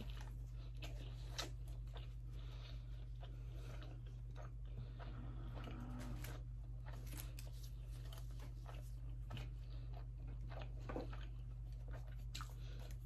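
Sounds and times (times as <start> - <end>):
person chewing food: 0.0 - 13.0
steady low hum: 0.0 - 13.0.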